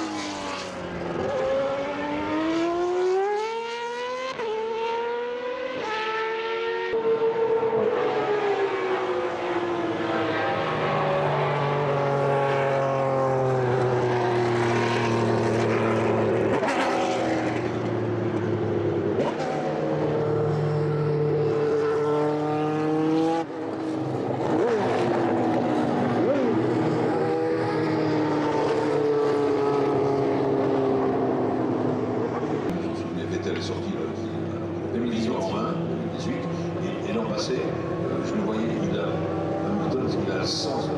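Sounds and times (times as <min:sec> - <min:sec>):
racing car engines passing: 0:00.0 - 0:40.9.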